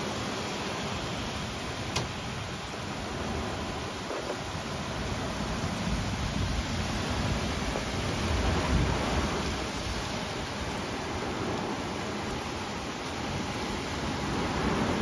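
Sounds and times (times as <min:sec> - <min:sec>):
heavy rain pouring: 0:00.0 - 0:15.0
low thunder rumble: 0:02.1 - 0:15.0.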